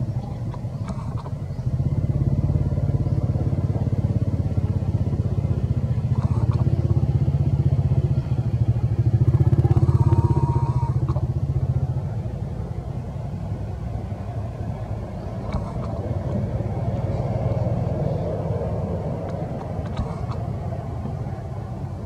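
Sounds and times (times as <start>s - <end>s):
motor engine droning: 0.0s - 22.0s.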